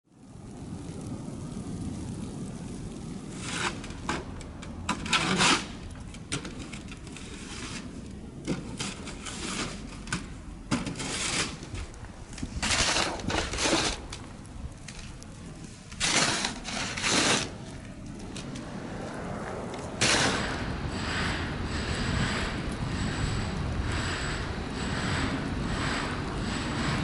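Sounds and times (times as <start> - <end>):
steady low rumble: 0.1 - 27.0
snow scraping and crunching: 0.6 - 27.0.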